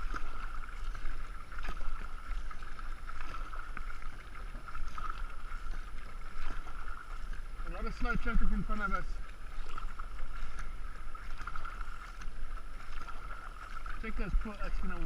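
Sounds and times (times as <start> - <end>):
paddle strokes splashing: 0.0 - 15.0.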